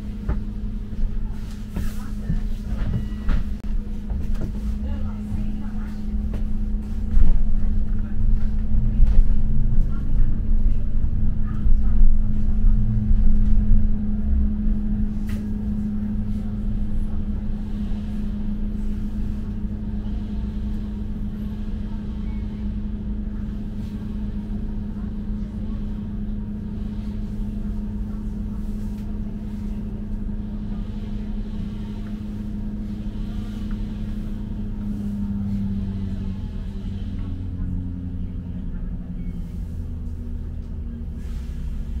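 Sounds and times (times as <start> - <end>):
bus drivetrain hum: 0.0 - 42.0
low road rumble: 0.0 - 42.0.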